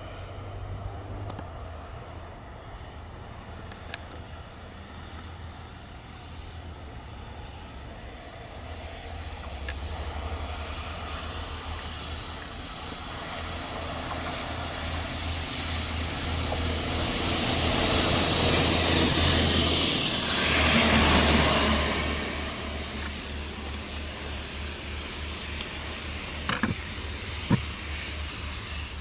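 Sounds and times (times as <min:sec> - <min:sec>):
diesel train passing: 0:00.0 - 0:29.0
hiss of passing train: 0:00.0 - 0:29.0
train wheel noise: 0:00.0 - 0:29.0.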